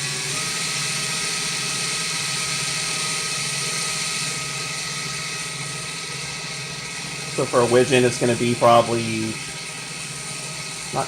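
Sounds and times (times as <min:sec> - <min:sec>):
electric drill motor whine: 0:00.0 - 0:11.0.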